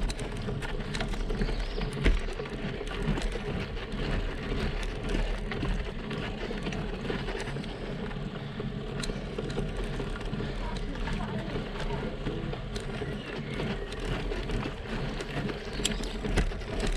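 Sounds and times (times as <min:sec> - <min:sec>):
bike tyres rumbling on asphalt: 0:00.0 - 0:16.9
small crackles and clicks: 0:00.0 - 0:16.9.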